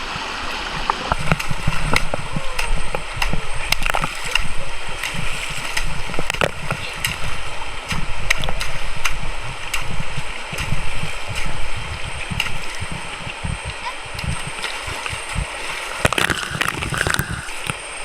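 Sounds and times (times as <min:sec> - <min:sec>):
river running over rocks: 0:00.0 - 0:18.0
small water splashes: 0:00.0 - 0:18.0.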